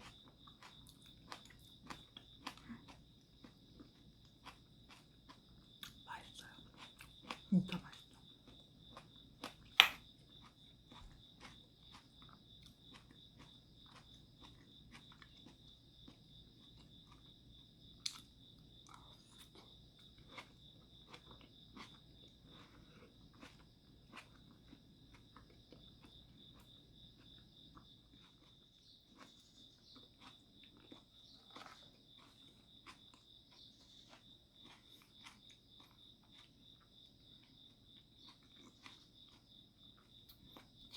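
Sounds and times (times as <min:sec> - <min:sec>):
cricket chirping: 0:00.0 - 0:40.9
person chewing food: 0:00.0 - 0:40.9.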